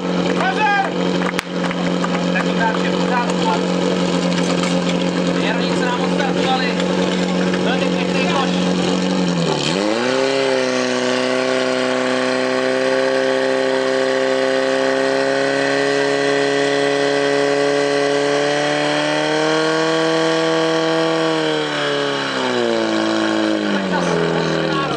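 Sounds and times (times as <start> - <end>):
pump engine at high revs: 0.0 - 24.9.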